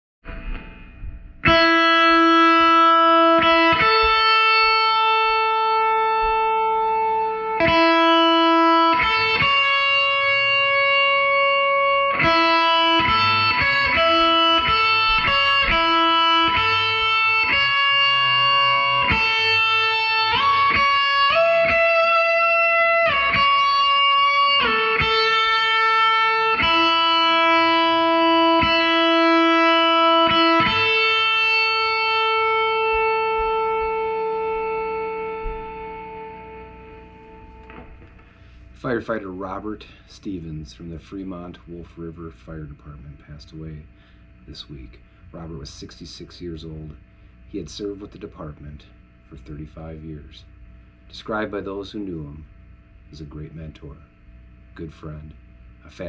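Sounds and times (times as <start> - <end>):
slow guitar melody: 0.2 - 52.4.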